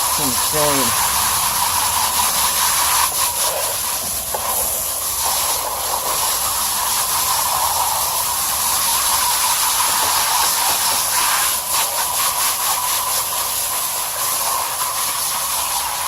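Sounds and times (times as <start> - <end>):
garden hose spraying water: 0.0 - 16.0.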